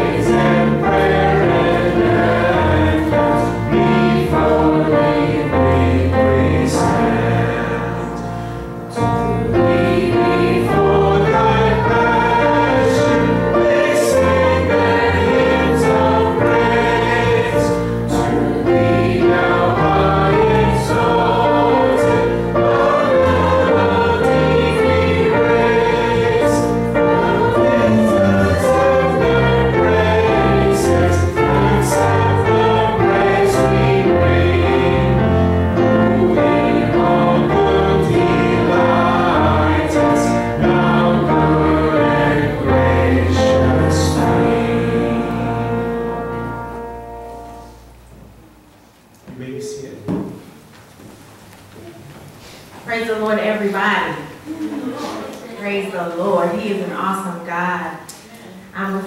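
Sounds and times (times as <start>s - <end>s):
congregation singing a hymn: 0.0s - 48.0s.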